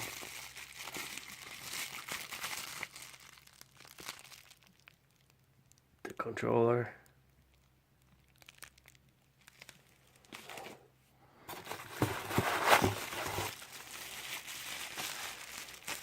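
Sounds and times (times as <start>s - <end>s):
plastic packaging crinkling: 0.0s - 5.8s, 7.5s - 10.8s, 11.5s - 16.0s.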